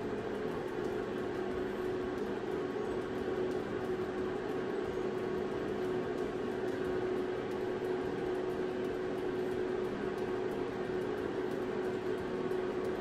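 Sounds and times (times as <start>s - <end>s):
air fryer fan humming: 0.0s - 13.0s.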